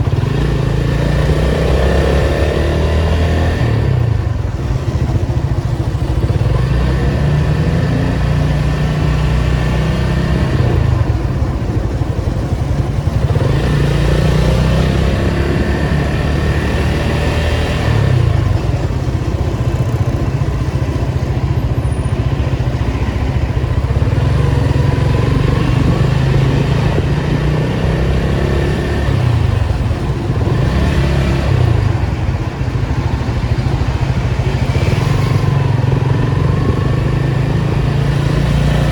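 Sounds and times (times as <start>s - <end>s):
road and traffic noise: 0.0s - 38.9s.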